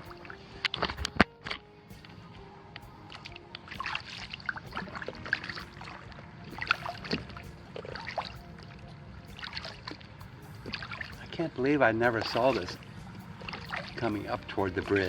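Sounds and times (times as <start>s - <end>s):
low wash of water: 0.0s - 15.0s
paddle splashing in water: 0.0s - 15.0s.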